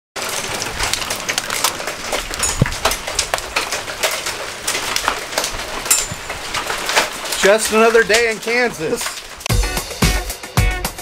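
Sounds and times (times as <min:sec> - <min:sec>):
heavy rain falling: 0:00.2 - 0:11.0.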